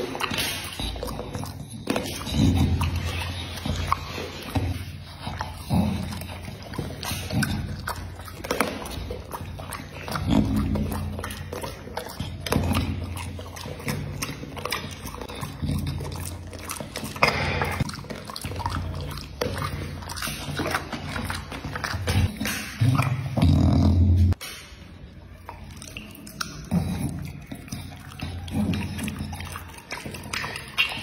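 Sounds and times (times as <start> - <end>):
wet mouth smacking: 0.0 - 24.8, 25.4 - 31.0
puppy crunching food: 0.0 - 31.0.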